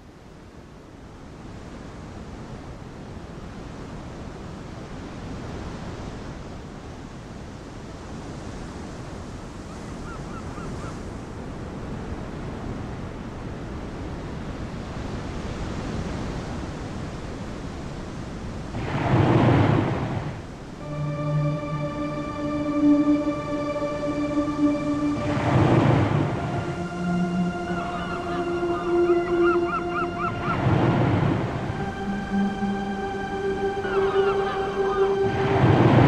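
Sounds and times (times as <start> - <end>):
waves breaking: 1.4 - 36.0.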